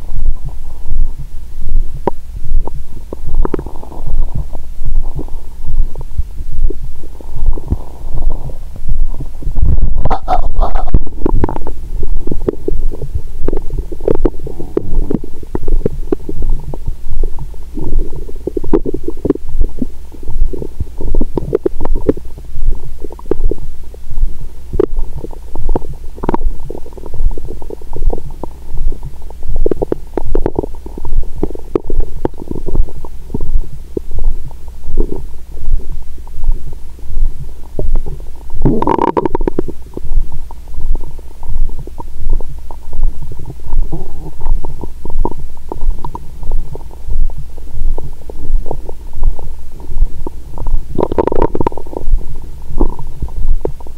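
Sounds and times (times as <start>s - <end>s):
steady low beat: 0.0s - 53.9s
stomach gurgling and rumbling: 0.0s - 53.9s.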